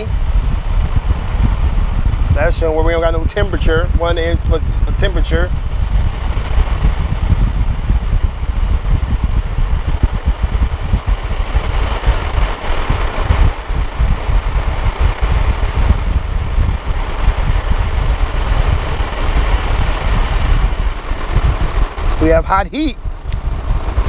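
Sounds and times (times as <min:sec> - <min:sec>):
car engine idling: 0:00.0 - 0:24.0
fan air rushing: 0:00.0 - 0:24.0.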